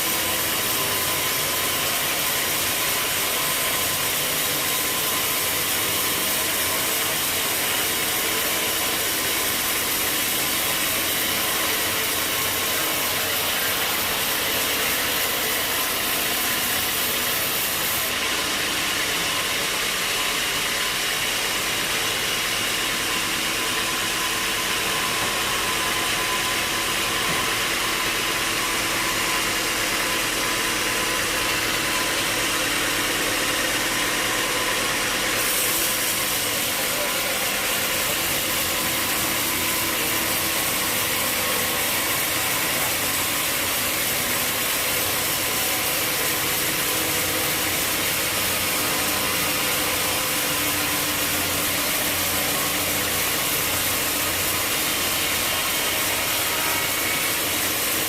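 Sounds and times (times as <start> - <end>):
constant machinery hiss: 0.0 - 58.0
sawmill machinery engine drone: 0.0 - 58.0.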